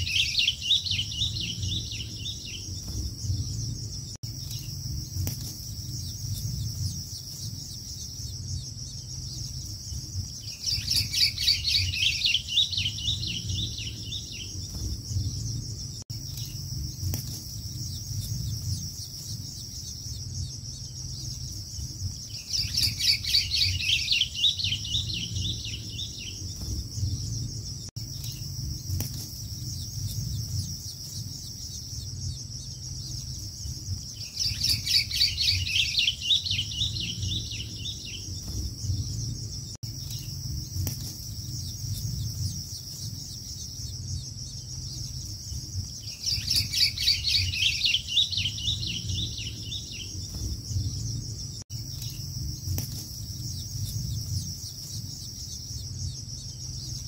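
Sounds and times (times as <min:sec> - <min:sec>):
low rumble: 0:00.0 - 0:47.5, 0:48.2 - 0:57.0
high-pitched insect drone: 0:00.0 - 0:57.0.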